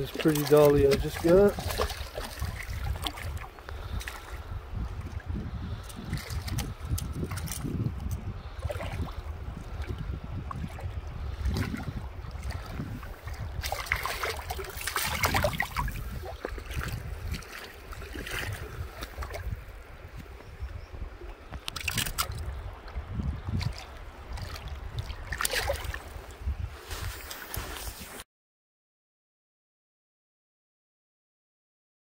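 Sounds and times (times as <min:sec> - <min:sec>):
running river water: 0:00.0 - 0:28.2
water splashing and trickling: 0:00.0 - 0:28.2
wind rumbling on microphone: 0:00.0 - 0:28.2.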